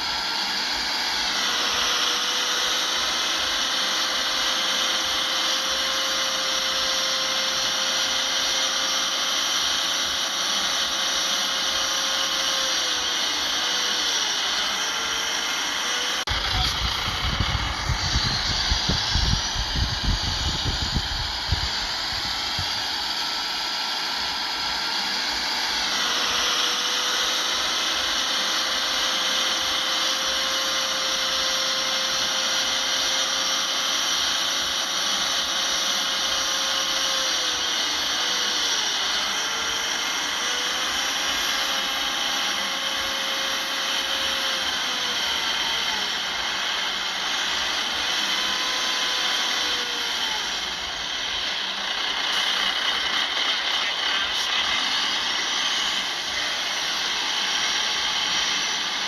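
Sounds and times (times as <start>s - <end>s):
machinery motor whine: 0.0s - 59.0s.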